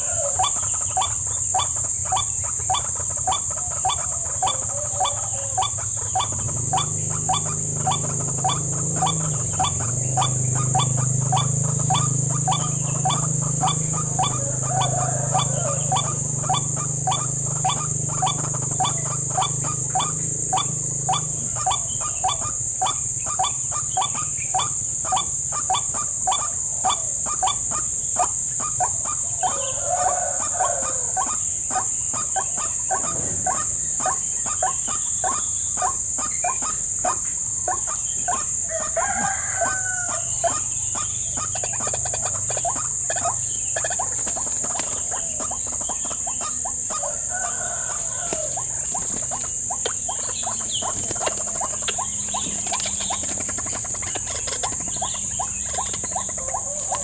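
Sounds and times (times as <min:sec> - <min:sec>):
insects droning: 0:00.0 - 0:57.0
waterhen calling: 0:00.0 - 0:57.0.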